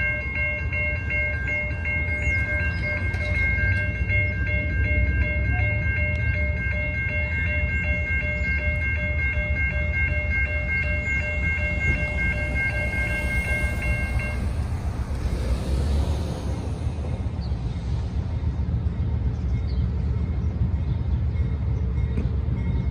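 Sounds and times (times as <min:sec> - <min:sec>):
diesel locomotives rumbling: 0:00.0 - 0:22.9.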